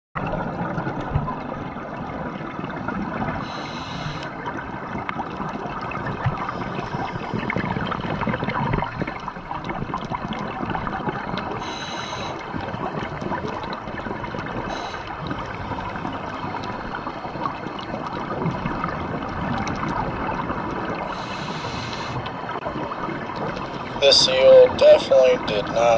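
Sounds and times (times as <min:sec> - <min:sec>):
underwater rushing and gurgling: 0:00.2 - 0:25.9.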